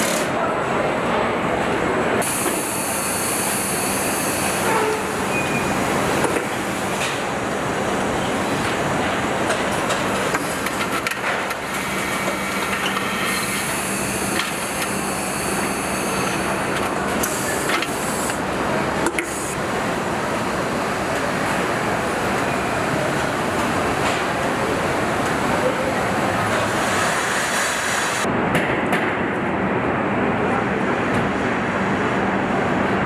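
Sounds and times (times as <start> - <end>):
machinery hum: 0.0 - 33.0.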